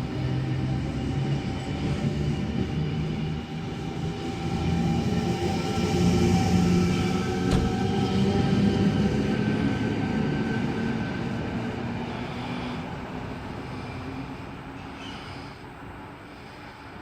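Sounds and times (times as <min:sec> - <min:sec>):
train running past: 0:00.0 - 0:17.0.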